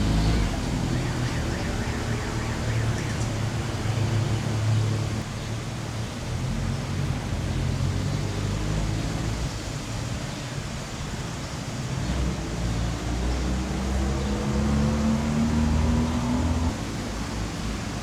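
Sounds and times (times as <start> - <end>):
traffic rush: 0.0 - 18.0
vehicle engines humming: 0.0 - 18.0.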